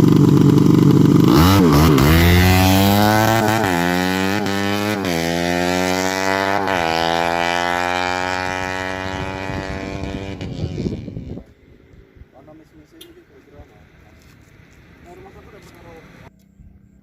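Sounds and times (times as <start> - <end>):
motorcycle engine revving: 0.0 - 16.3.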